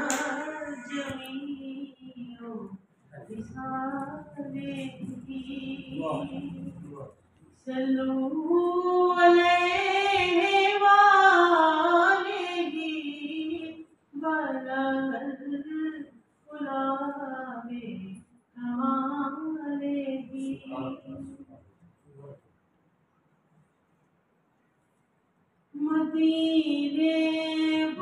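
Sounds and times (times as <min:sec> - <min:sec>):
woman singing unaccompanied: 0:00.0 - 0:06.8, 0:07.6 - 0:21.3, 0:25.8 - 0:28.0.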